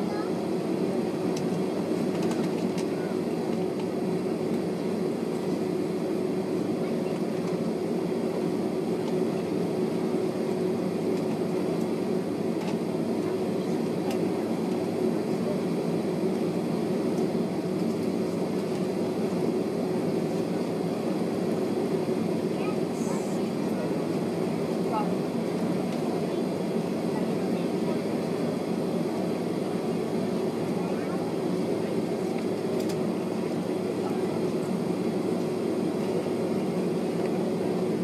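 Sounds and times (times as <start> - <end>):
jet engines humming in cabin: 0.0 - 38.0.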